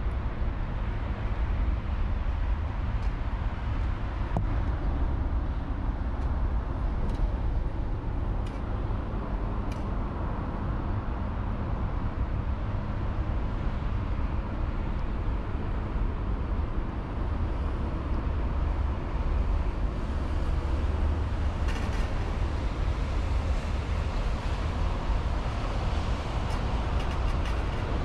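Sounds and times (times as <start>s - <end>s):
city road traffic rumble: 0.0s - 28.0s.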